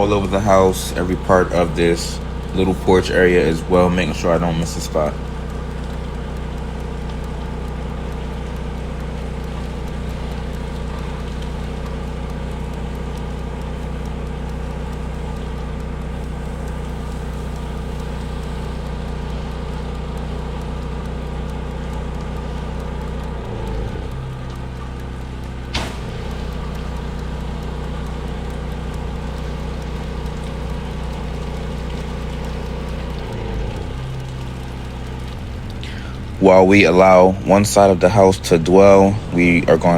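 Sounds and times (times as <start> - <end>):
engine humming: 0.0 - 39.9
sharp click: 5.2 - 39.9.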